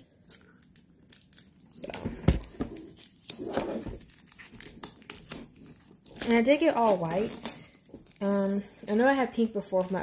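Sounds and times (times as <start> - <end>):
plastic shrink wrap crinkling: 0.0 - 10.0.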